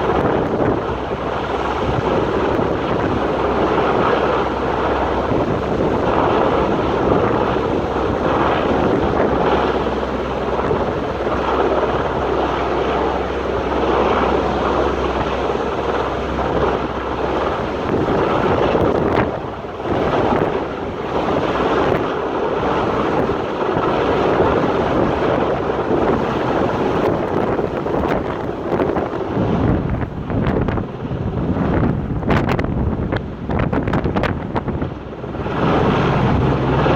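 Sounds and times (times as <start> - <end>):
aircraft engine drone: 0.0 - 36.9
wind buffeting microphone: 0.0 - 36.9.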